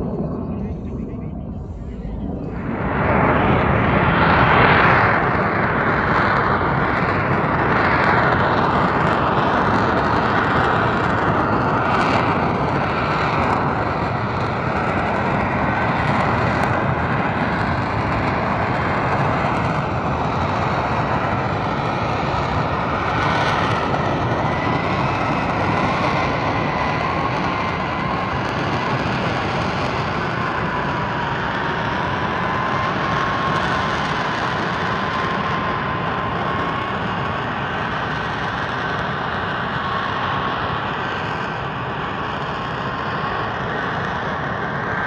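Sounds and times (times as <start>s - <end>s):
jet engine rushing noise: 0.0s - 45.0s.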